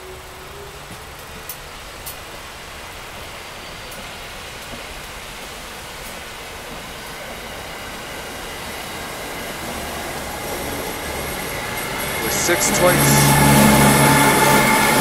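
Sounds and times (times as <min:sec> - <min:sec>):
faint high whine: 0:00.0 - 0:04.4, 0:07.1 - 0:15.0
train wheels on rails: 0:00.0 - 0:15.0.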